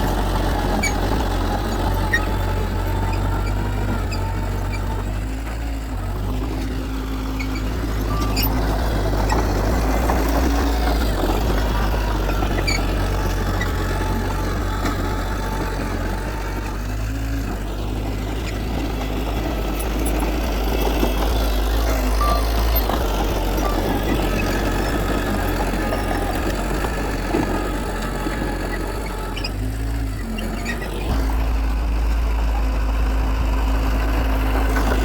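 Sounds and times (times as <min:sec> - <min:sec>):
heavy diesel machinery droning: 0:00.0 - 0:35.0.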